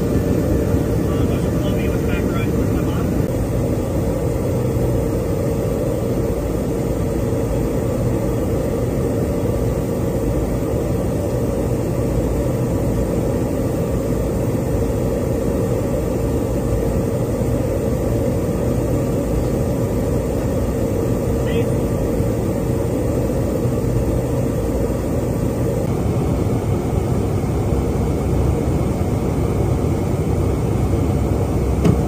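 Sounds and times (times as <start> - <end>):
aircraft engines and airflow: 0.0 - 32.0
steady hum: 0.0 - 32.0.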